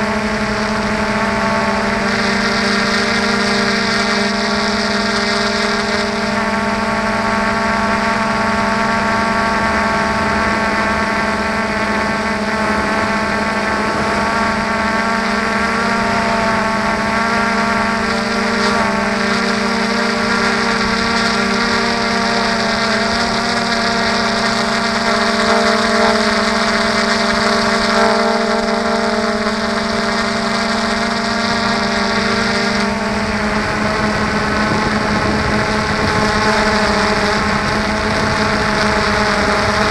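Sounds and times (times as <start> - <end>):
drone motors humming and whining: 0.0 - 39.9.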